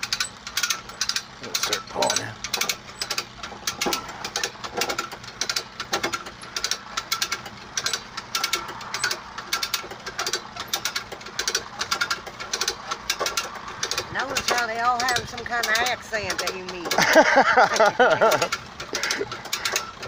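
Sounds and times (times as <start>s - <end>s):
motor running: 0.0s - 20.0s
winch ratcheting clicks: 0.0s - 20.0s.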